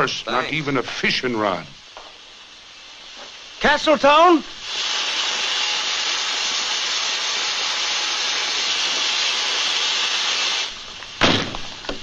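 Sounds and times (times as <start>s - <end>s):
steam locomotive venting steam: 0.0s - 11.0s.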